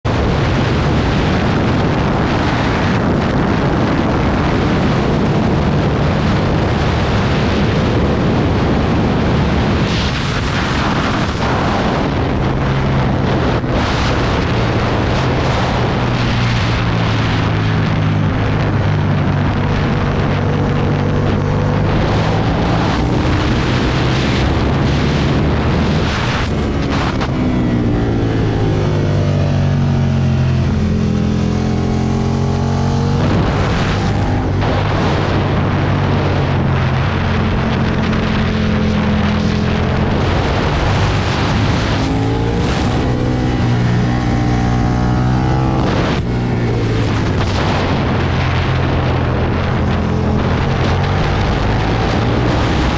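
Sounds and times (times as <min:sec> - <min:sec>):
motorcycle engine: 0:00.0 - 0:52.9
wind rush on microphone: 0:00.0 - 0:52.9.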